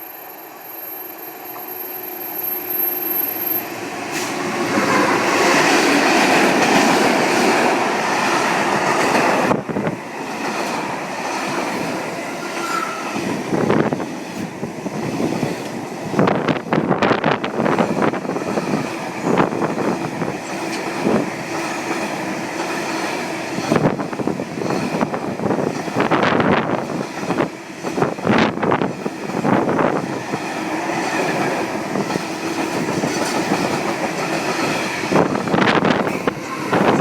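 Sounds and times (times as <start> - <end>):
train wheels clicking over rail joints: 4.1 - 37.0.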